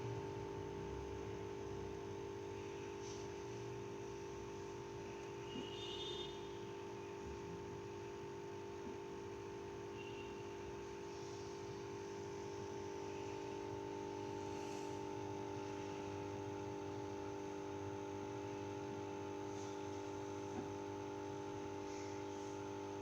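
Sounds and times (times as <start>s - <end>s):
steady electric hum: 0.0s - 23.0s.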